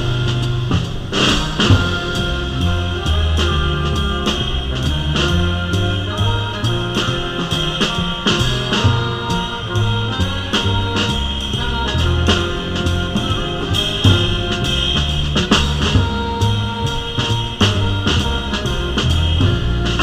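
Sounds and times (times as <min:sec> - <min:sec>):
drum kit with cymbals: 0:00.0 - 0:20.0
upright bass line: 0:00.0 - 0:20.0.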